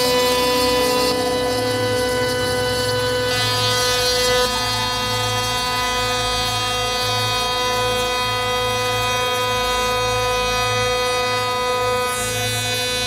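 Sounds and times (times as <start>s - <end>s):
low mechanical hum: 0.0s - 13.0s
router spindle whining: 0.0s - 13.0s.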